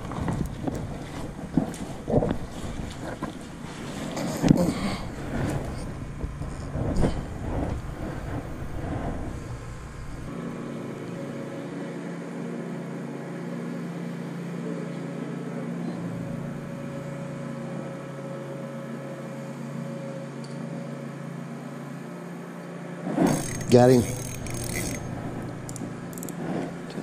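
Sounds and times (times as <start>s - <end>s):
drone of vehicle traffic: 0.0s - 18.1s, 21.9s - 27.0s.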